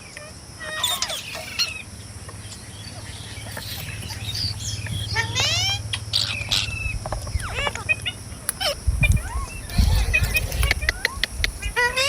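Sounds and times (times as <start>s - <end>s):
low steady hum: 0.0s - 12.0s
parrots squawking: 0.0s - 12.0s
soft bird chirps: 0.0s - 12.0s.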